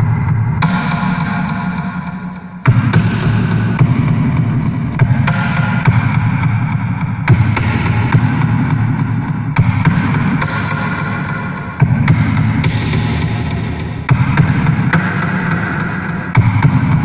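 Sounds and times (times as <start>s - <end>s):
experimental electronic music: 0.0s - 17.0s.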